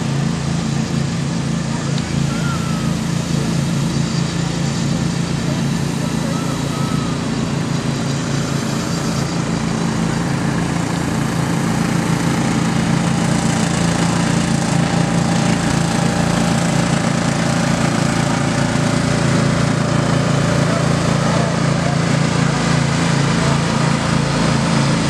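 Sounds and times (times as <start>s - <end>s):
lawn mower engines running: 0.0s - 25.0s.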